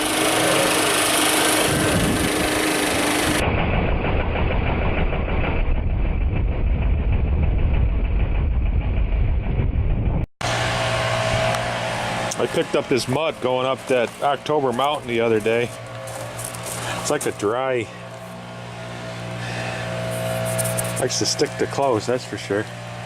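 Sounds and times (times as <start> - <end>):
small engine running: 0.0 - 8.6, 10.4 - 23.0
low pulsing engine rumble: 0.0 - 23.0.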